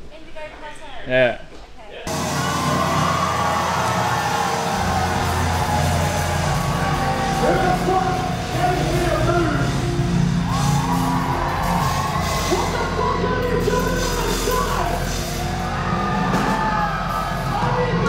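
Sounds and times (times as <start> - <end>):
rock music with loud vocals: 2.1 - 18.0.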